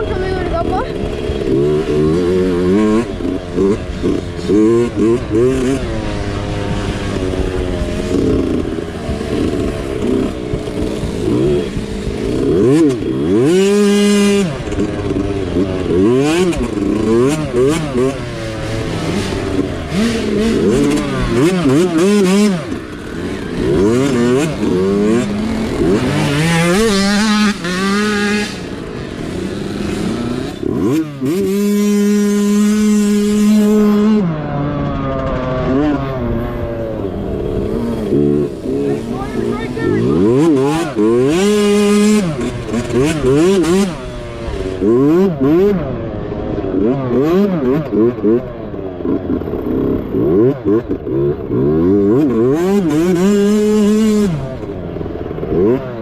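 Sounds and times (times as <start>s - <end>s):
mini bike engine revving: 0.0s - 56.0s.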